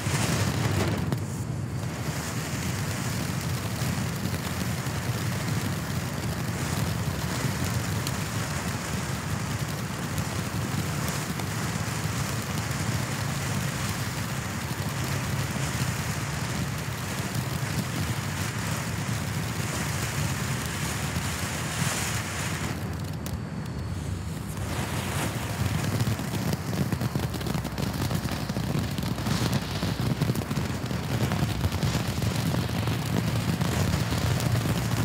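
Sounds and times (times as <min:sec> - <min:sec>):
fireworks fizzing and crackling: 0:00.0 - 0:35.0.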